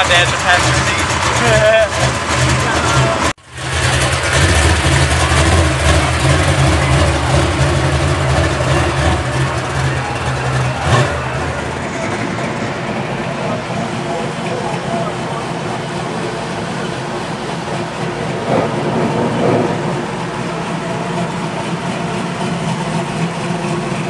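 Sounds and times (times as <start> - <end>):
car engine driving past: 0.0 - 24.0.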